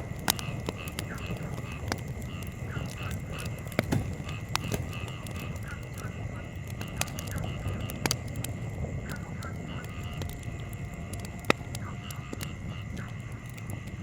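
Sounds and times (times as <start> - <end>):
campfire rumbling: 0.0 - 14.0
fire crackles and pops: 0.0 - 14.0.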